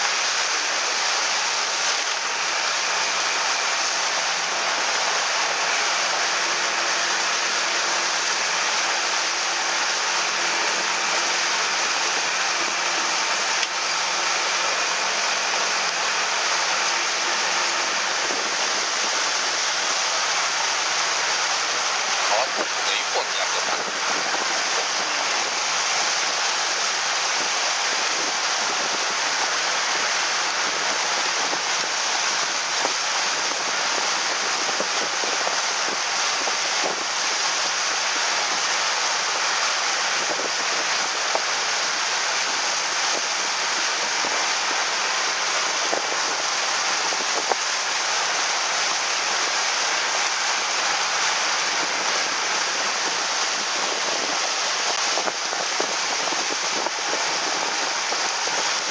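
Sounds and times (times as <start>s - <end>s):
water rushing past boat hull: 0.0s - 58.9s.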